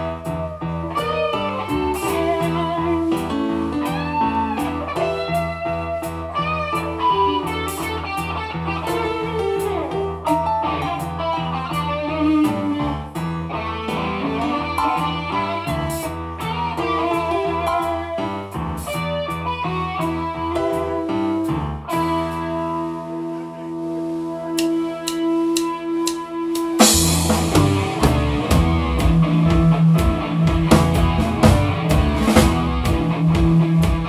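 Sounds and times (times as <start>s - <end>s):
bass line: 0.0s - 34.0s
drums: 0.0s - 34.0s
electric lead guitar bending notes: 0.0s - 34.0s.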